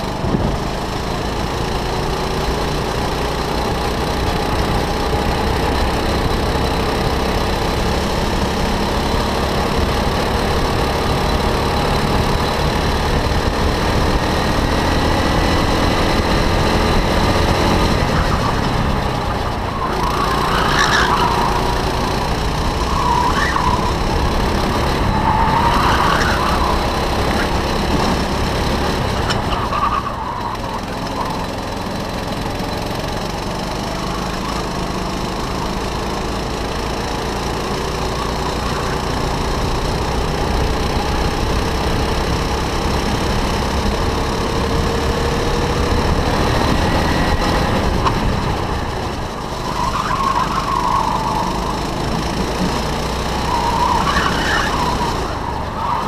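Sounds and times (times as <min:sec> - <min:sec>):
go-kart engine: 0:00.0 - 0:56.0.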